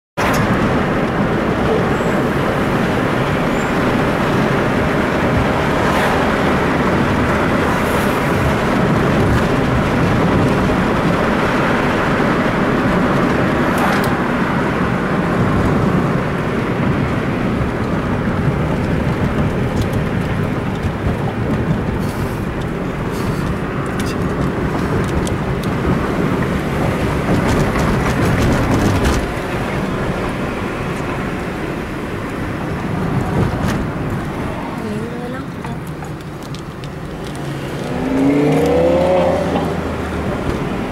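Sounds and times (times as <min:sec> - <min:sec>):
car engine and exhaust: 0:00.2 - 0:40.9
road noise: 0:00.2 - 0:40.9.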